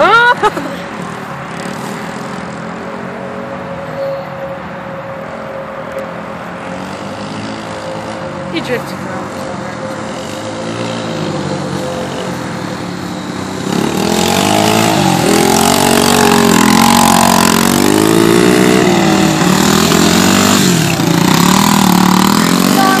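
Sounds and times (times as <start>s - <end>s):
dirt bikes revving: 0.0s - 23.0s.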